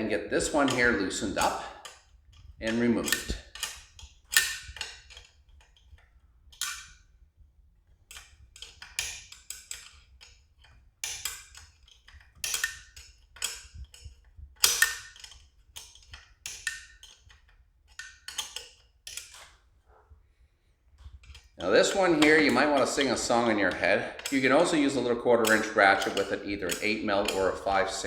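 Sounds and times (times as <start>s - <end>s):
wrench clicking on a nut: 0.4s - 7.2s, 8.0s - 19.6s, 21.0s - 28.0s.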